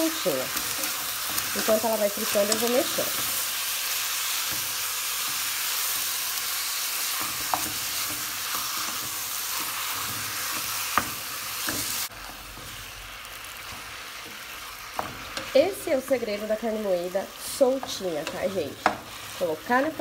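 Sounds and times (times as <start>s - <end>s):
meat sizzling in oil: 0.0s - 20.0s.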